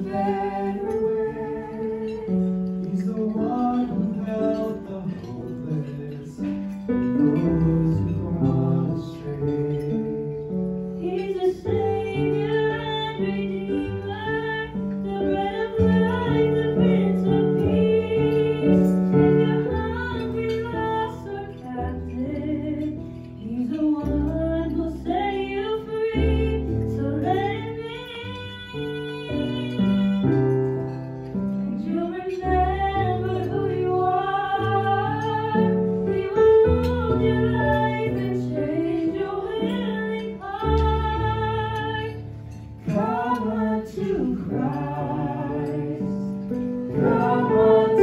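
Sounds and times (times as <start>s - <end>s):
woman singing into microphone: 0.0s - 5.4s, 11.0s - 30.6s, 31.7s - 48.0s
guitar: 0.0s - 38.6s, 39.2s - 48.0s.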